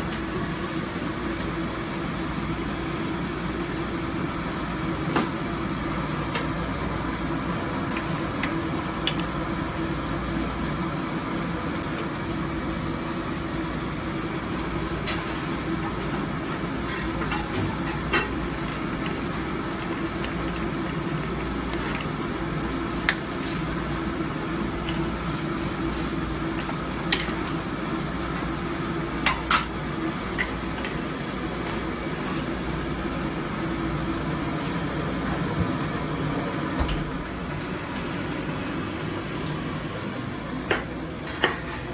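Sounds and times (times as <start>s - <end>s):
gas burner hum: 0.0s - 41.9s.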